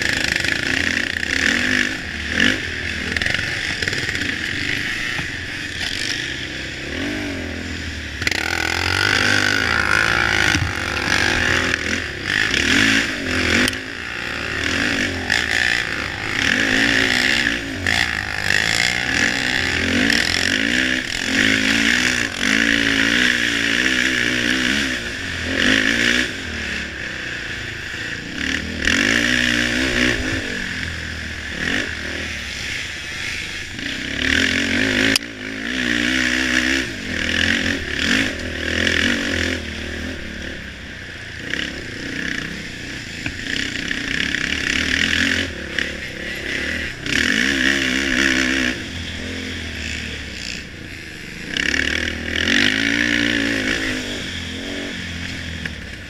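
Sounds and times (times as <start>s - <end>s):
atv engine revving: 0.0s - 56.0s
clatter over rough trail: 0.0s - 56.0s.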